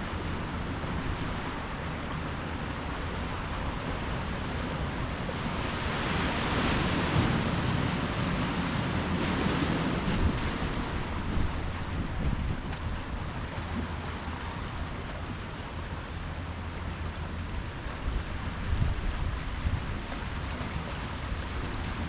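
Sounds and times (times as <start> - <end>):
ocean waves breaking: 0.0 - 22.0.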